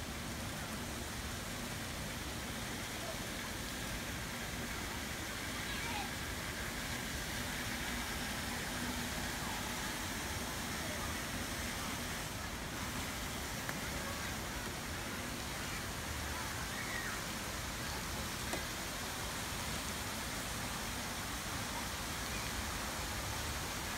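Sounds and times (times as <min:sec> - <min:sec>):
outdoor background hiss: 0:00.0 - 0:23.9.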